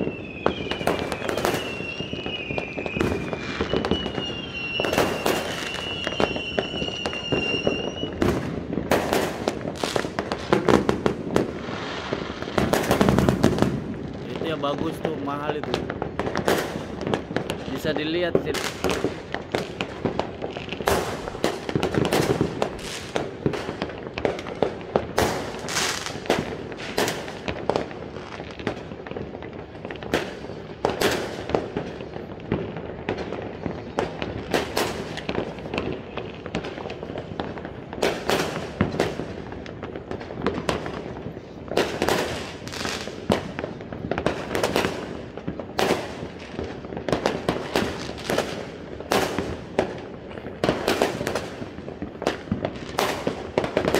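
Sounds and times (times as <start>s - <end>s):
distant firework blasts: 0.0s - 53.9s
firecrackers banging and popping: 0.0s - 53.9s.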